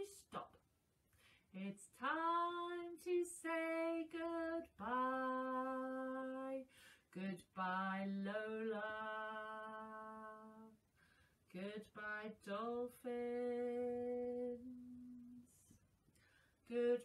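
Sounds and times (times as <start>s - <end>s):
woman singing unaccompanied: 0.0s - 0.6s, 1.5s - 10.8s, 11.5s - 15.8s, 16.6s - 17.0s.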